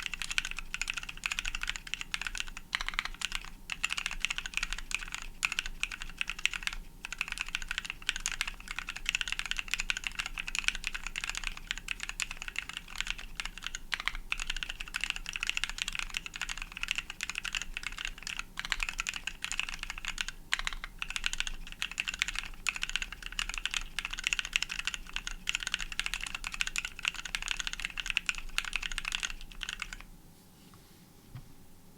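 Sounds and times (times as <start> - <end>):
fast mechanical keyboard typing: 0.0 - 30.1.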